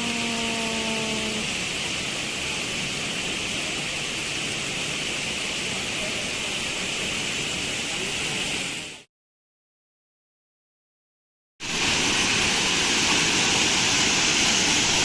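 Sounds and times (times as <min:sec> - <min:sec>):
waterfall roar: 0:00.0 - 0:09.0, 0:11.6 - 0:15.0.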